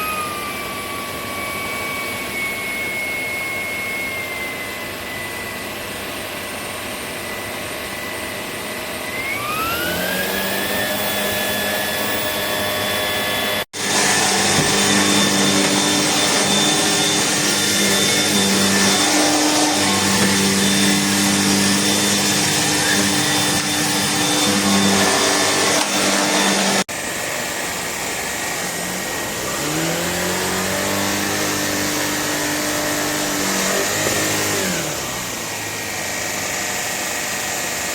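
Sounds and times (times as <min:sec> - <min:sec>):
cordless vacuum motor whine: 0:00.0 - 0:37.9.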